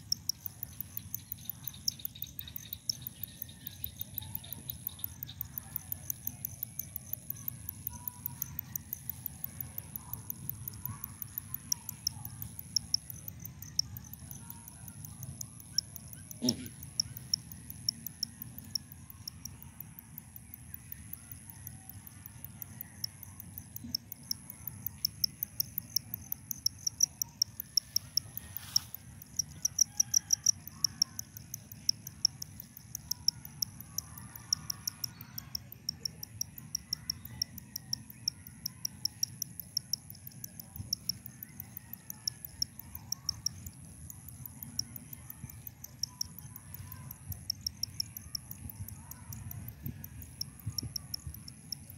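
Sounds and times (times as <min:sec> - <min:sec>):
insects buzzing: 0:00.0 - 0:51.9
insects chirping: 0:00.0 - 0:51.9.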